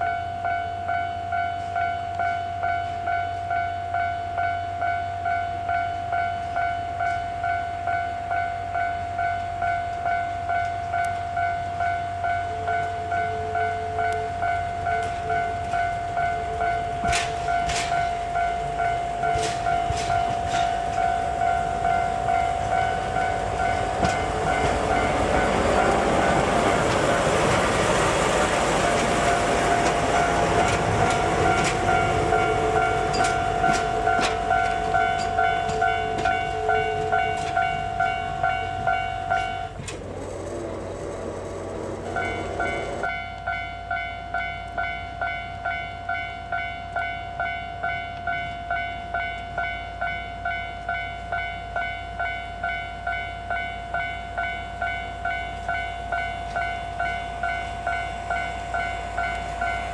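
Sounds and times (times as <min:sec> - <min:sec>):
train passing with wheel clicks: 0:00.0 - 0:59.9
level crossing bell clanging: 0:00.1 - 0:59.9.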